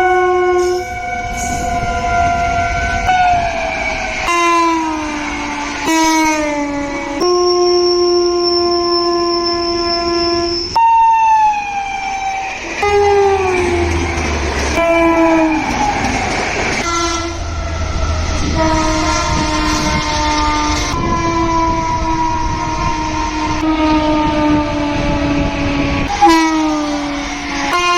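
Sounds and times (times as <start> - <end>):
locomotive horns: 0.0 - 10.9, 12.3 - 27.9
moving train rumble: 0.0 - 27.9.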